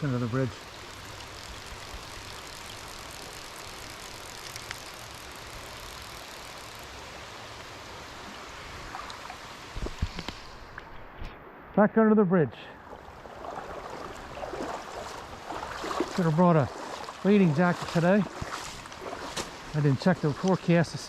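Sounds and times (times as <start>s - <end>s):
rain falling on a creek: 0.0s - 11.0s, 12.8s - 21.0s.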